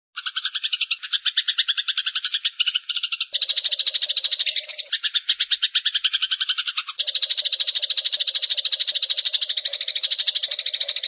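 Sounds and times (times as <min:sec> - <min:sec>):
sparrows chirping: 0:00.2 - 0:11.0.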